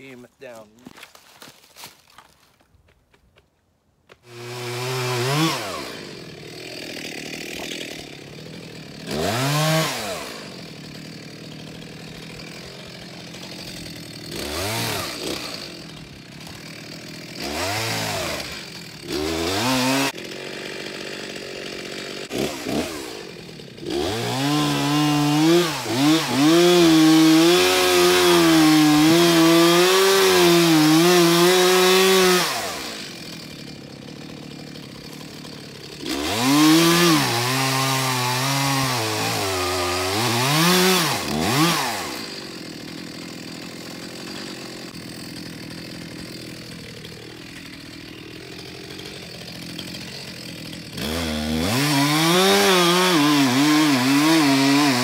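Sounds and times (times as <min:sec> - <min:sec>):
chainsaw revving and cutting wood: 0:00.0 - 0:02.4, 0:04.1 - 0:55.0.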